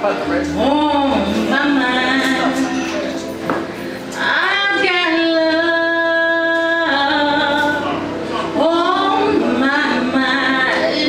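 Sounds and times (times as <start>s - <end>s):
live band playing softly: 0.0s - 11.0s.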